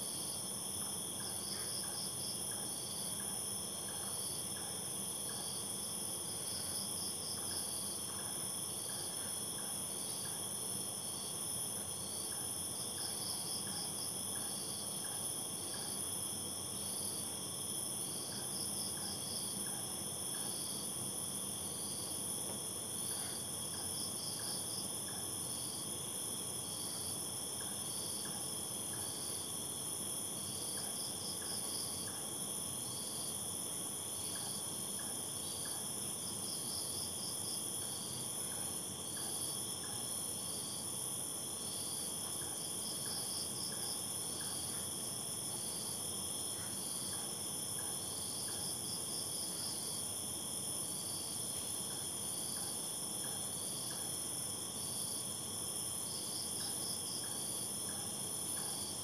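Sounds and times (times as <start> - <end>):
cricket chirps: 0.0 - 59.0
cricket trill: 0.0 - 59.0
crickets droning: 0.0 - 59.0.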